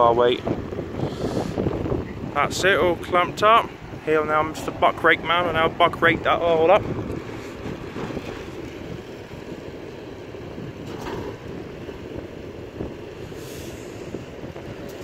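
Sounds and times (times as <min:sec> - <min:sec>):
tractor engine running: 0:00.0 - 0:15.0
wind buffeting microphone: 0:00.0 - 0:15.0.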